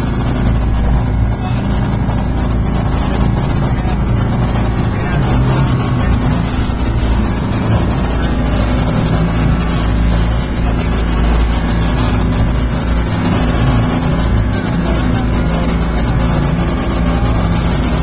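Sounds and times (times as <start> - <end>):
ferry engine humming: 0.0 - 18.0.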